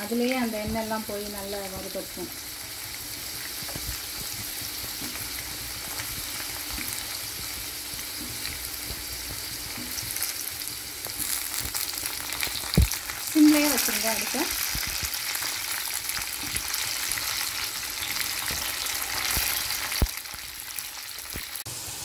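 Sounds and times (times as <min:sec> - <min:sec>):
fruit sizzling in hot oil: 0:00.0 - 0:22.0.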